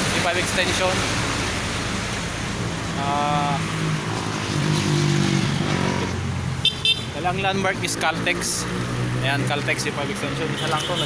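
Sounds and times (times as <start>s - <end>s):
passing vehicle engines: 0.0s - 11.0s.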